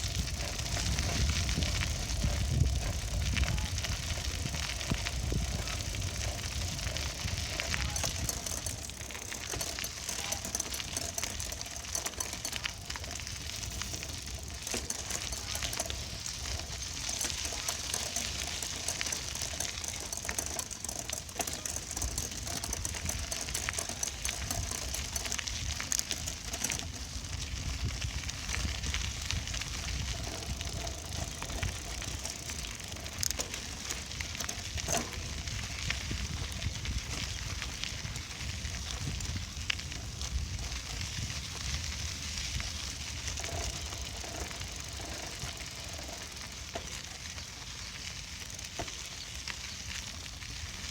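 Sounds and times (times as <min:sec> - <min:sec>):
wind buffeting microphone: 0:00.0 - 0:46.3
bicycle rattling: 0:00.0 - 0:50.9.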